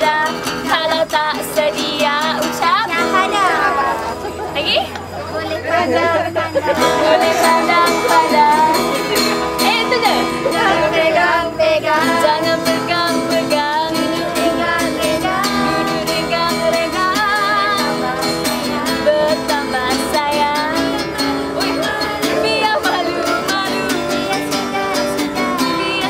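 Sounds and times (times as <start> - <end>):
person singing with vibrato: 0.0 - 26.0
plucked guitar: 0.0 - 26.0.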